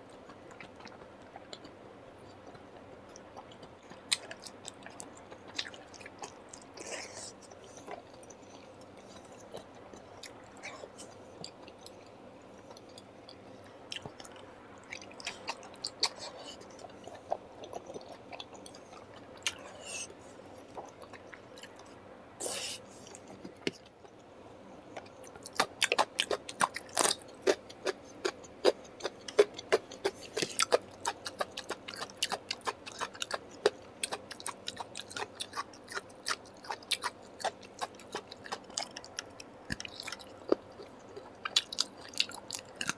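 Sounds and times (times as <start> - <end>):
person chewing food: 0.1 - 24.2, 25.0 - 42.9.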